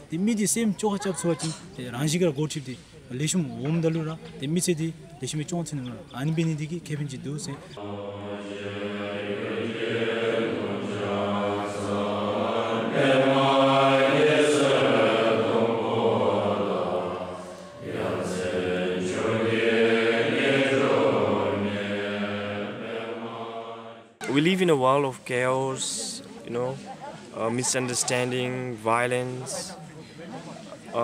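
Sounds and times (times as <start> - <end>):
voices chanting a prayer: 0.0 - 31.0.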